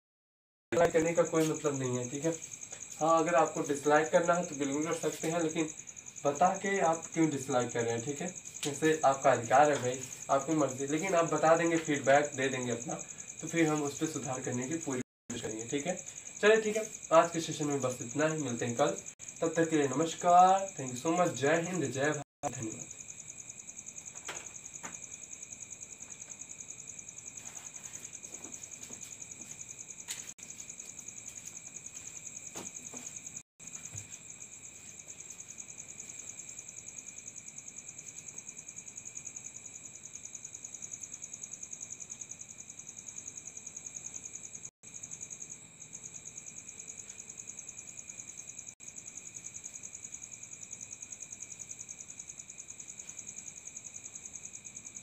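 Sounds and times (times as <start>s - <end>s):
insects trilling: 0.8s - 55.0s.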